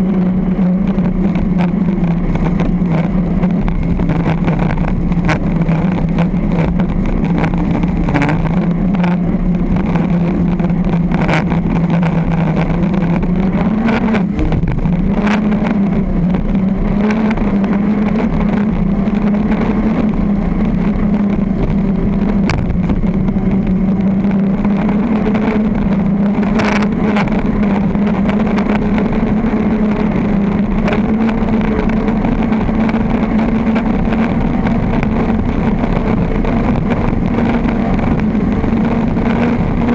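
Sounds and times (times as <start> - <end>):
boat engine at high revs: 0.0 - 39.9.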